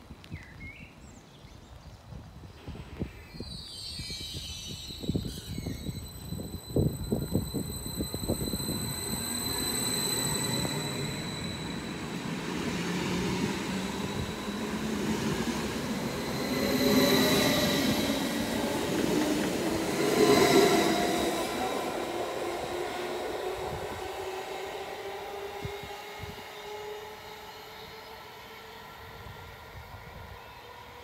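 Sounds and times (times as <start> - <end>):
electric train passing: 2.6 - 31.0
thin high whine: 3.4 - 28.7.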